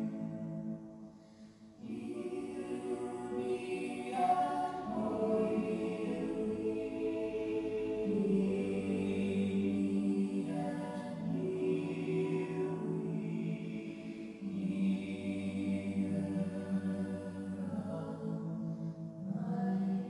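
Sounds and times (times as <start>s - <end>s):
meditative choral chant: 0.0s - 20.0s.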